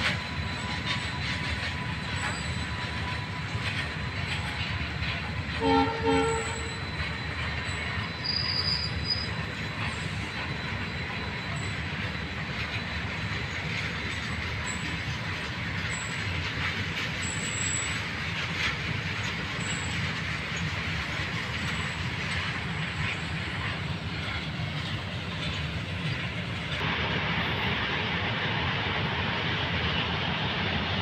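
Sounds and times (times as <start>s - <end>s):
freight train wagons rolling: 0.0s - 31.0s.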